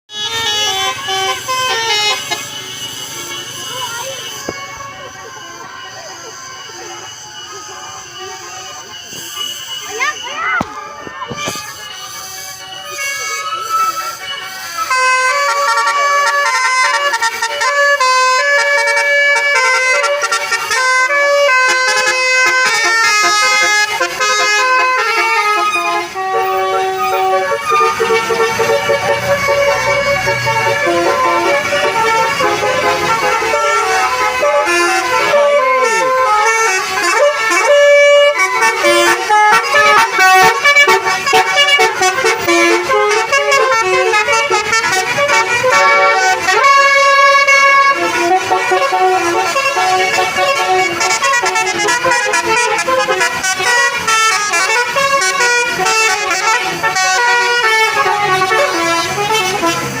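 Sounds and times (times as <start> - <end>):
musical air horns: 0.1 - 60.0.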